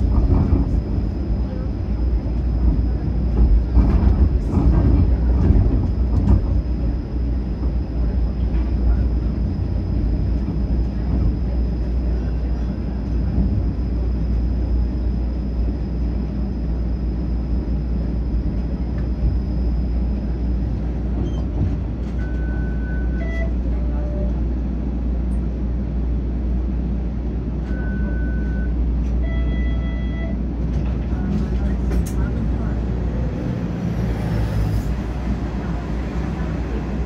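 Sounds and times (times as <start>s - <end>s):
streetcar motors and wheels rumbling: 0.0s - 37.0s.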